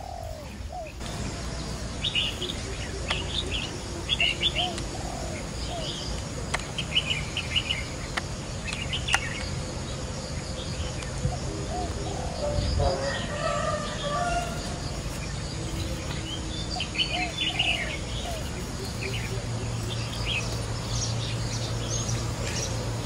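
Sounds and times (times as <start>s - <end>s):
long low-pitched bird call: 0.0s - 8.1s, 10.7s - 22.2s
small birds chirping: 0.0s - 23.0s.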